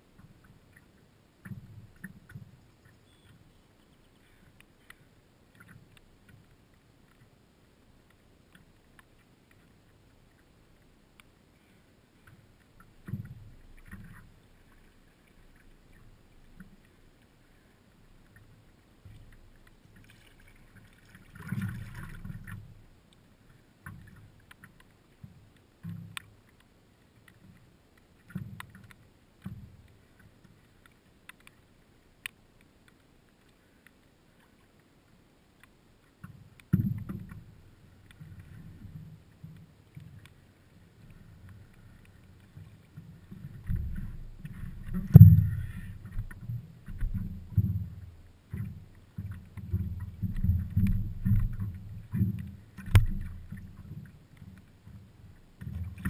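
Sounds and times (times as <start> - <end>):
faint ticks: 0.0 - 56.0
paddle strokes in water: 0.0 - 56.0.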